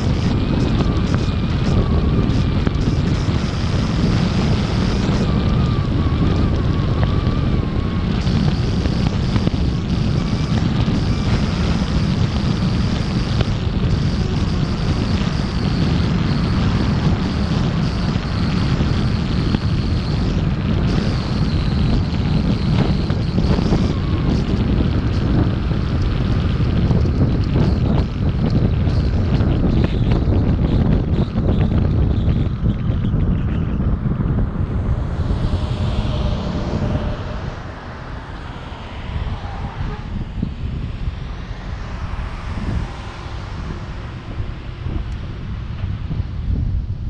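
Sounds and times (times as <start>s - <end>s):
road rumble: 0.0s - 47.0s
wind buffeting microphone: 0.0s - 47.0s.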